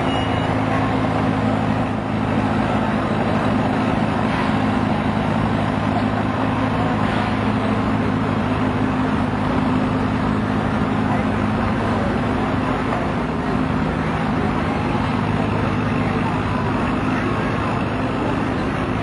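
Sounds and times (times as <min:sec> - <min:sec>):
tractor engine under heavy load: 0:00.0 - 0:19.0.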